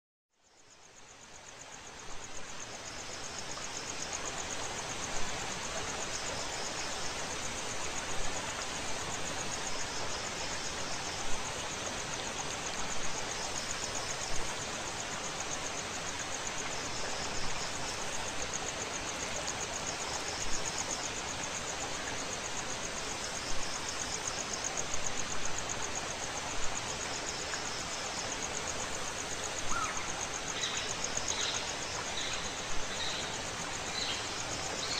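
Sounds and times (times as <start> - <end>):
background hiss: 0.4 - 34.9
insects trilling: 0.4 - 34.9.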